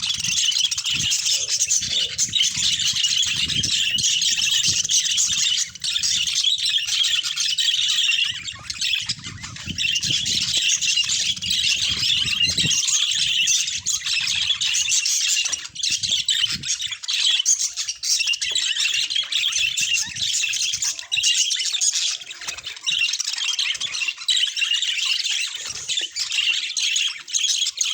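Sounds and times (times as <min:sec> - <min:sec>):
budgerigars chattering: 0:00.0 - 0:27.9.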